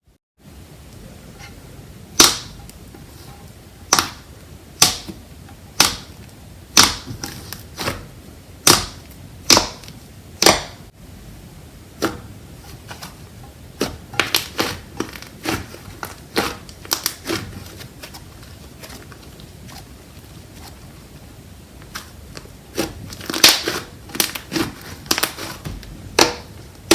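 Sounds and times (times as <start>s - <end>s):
steady hiss: 0.4s - 26.9s.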